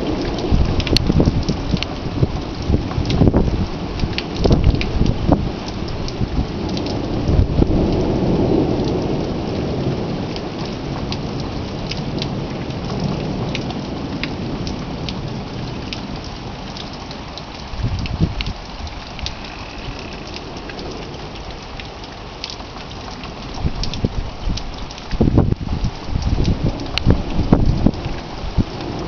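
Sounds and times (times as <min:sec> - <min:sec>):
thunder rumbling: 0:00.0 - 0:22.4, 0:23.1 - 0:29.0
rain ticking: 0:00.0 - 0:29.0.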